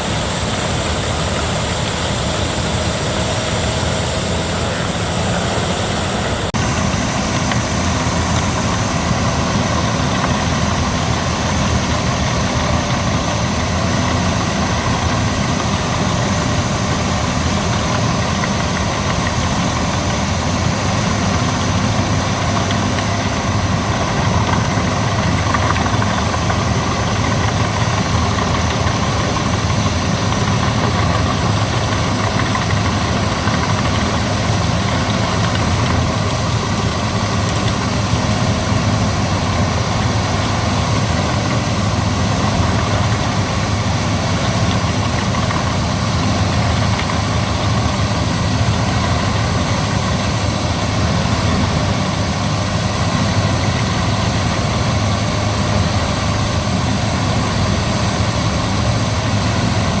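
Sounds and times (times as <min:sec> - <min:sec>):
wood chipper running: 0:00.0 - 1:00.0.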